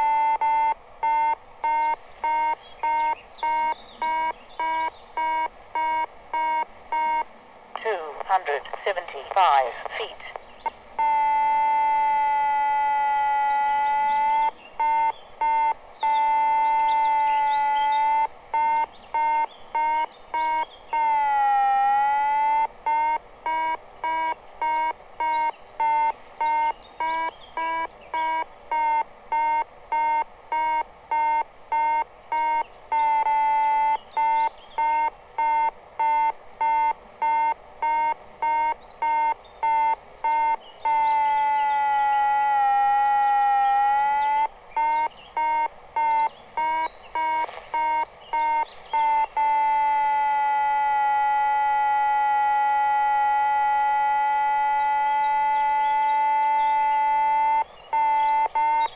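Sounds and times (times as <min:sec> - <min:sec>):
electronic altimeter beeping: 0:00.0 - 0:58.9.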